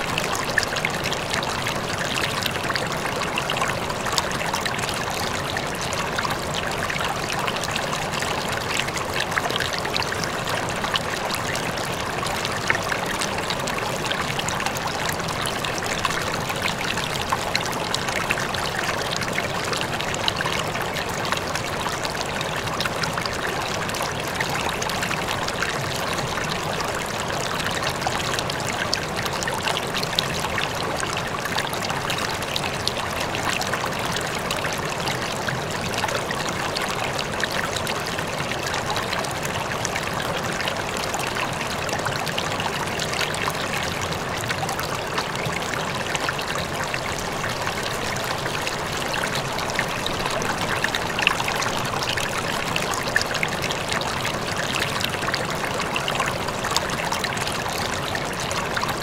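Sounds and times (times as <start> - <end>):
water flowing over rocks: 0.0 - 59.0.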